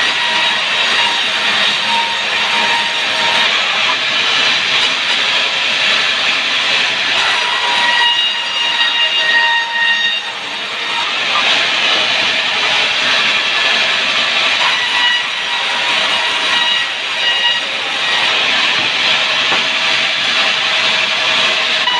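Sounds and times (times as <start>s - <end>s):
sawmill blade cutting log: 0.0s - 21.9s.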